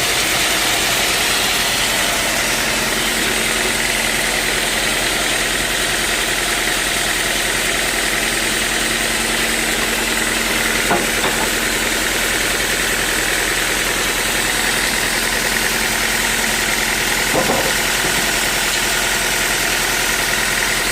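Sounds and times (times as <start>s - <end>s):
sawmill machinery whining: 0.0s - 20.9s.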